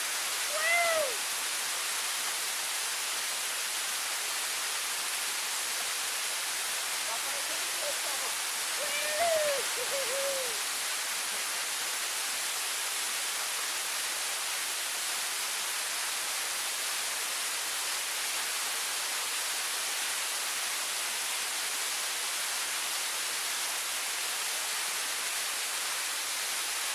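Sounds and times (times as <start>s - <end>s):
waterfall hissing: 0.0s - 26.9s.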